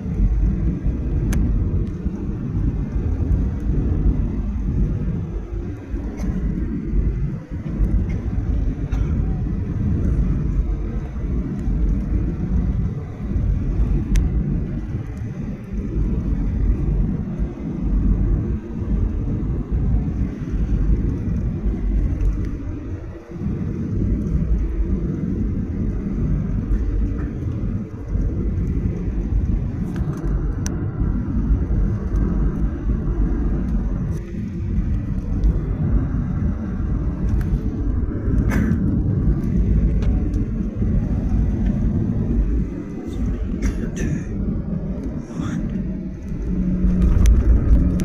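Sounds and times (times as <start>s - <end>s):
low rumble in airplane cabin: 0.0s - 48.0s.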